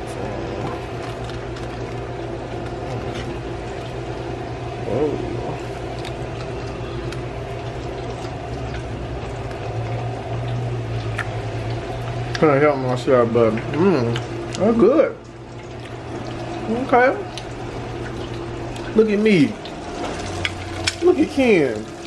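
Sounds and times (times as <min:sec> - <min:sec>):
oil popping: 0:00.0 - 0:22.0.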